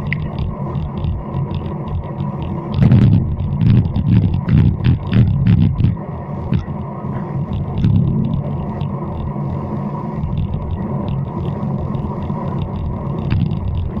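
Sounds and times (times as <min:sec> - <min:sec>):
bike clicks and rattles: 0:00.0 - 0:09.6, 0:10.2 - 0:14.0
road noise: 0:00.0 - 0:14.0
wind buffeting microphone: 0:00.0 - 0:14.0.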